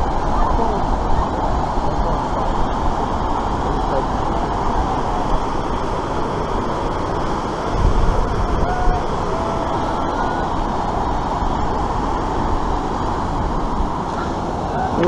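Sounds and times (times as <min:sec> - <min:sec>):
rushing white water: 0:00.0 - 0:15.0
wind buffeting microphone: 0:00.0 - 0:15.0.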